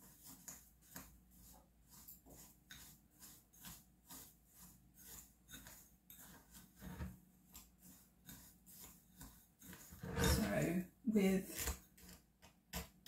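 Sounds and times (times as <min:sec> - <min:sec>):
gritty scraping in bowl: 0:00.0 - 0:12.2.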